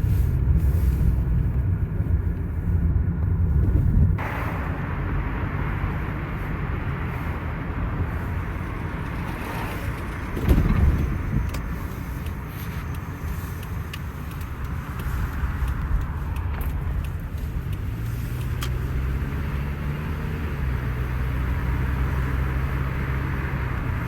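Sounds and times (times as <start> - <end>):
road traffic rumble: 0.0 - 24.0
vehicle passing: 3.7 - 24.0.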